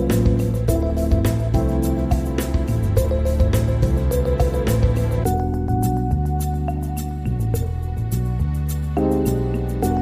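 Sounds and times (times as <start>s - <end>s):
calm instrumental music: 0.0s - 10.0s.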